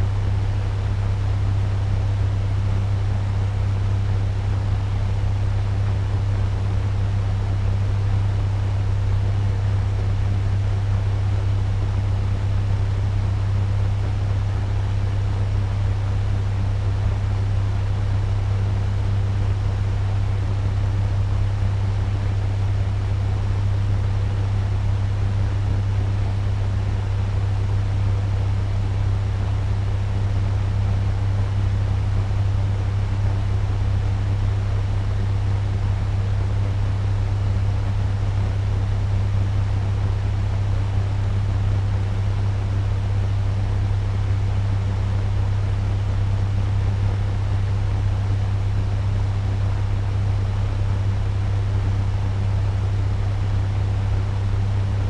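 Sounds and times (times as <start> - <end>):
turbo fan running: 0.0 - 55.0.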